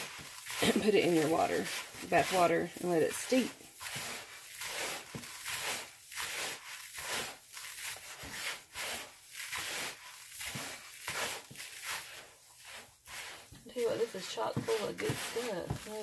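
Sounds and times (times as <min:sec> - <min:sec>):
gritty rasping of bath salts: 0:00.0 - 0:16.0.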